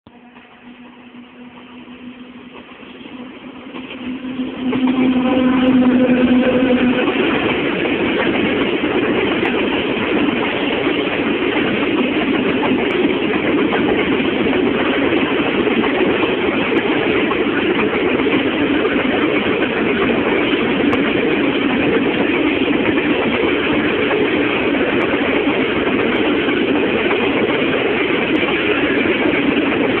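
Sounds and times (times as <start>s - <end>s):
train wheels rumbling on rails: 0.1s - 30.0s.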